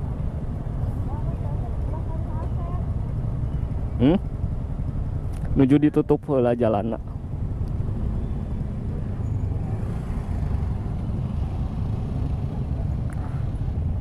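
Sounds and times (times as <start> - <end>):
motorcycle engines idling: 0.0 - 14.0.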